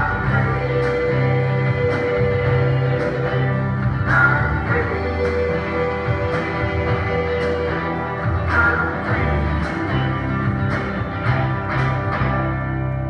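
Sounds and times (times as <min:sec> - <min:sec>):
band playing guitar bass and drums: 0:00.0 - 0:13.0.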